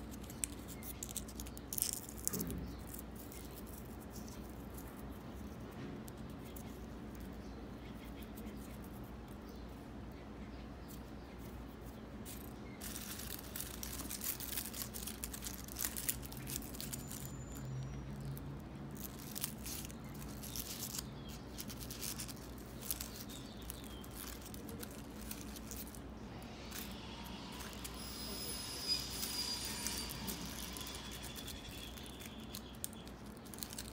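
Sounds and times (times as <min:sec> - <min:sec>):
dried petals crackling: 0:00.0 - 0:07.4, 0:11.0 - 0:33.9.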